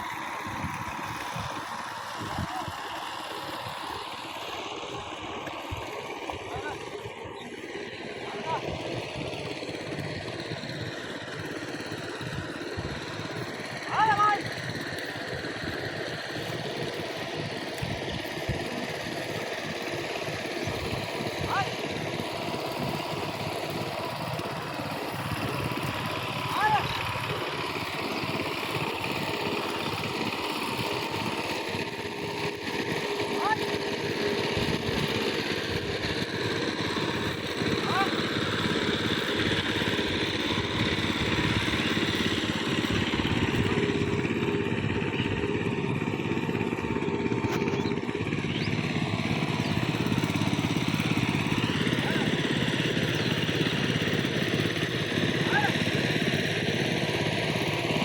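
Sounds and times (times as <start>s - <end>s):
small engine chugging: 0.0s - 58.0s.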